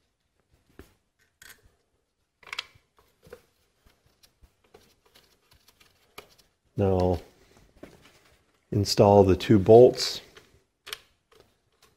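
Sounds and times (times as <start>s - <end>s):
gloved hands clicking and rustling: 0.1s - 8.7s, 10.2s - 11.9s.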